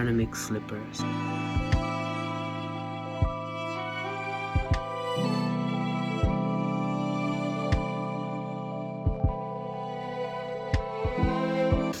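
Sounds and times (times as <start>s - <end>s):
slow gentle instrumental music: 0.0s - 12.0s.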